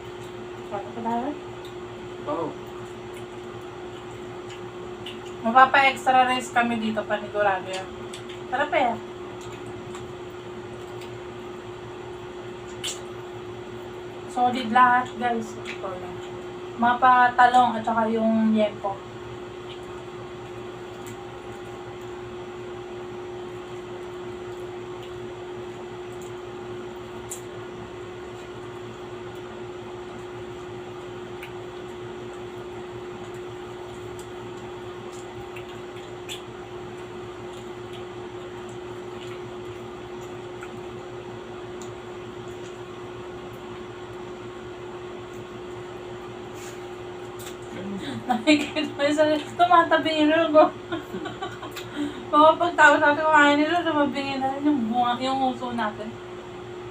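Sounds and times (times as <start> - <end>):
steady machine hum: 0.0 - 56.9.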